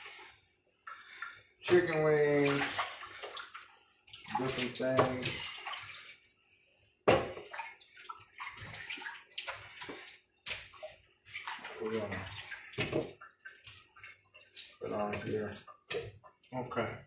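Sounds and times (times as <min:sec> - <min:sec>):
tap water running and splashing: 0:00.0 - 0:16.6.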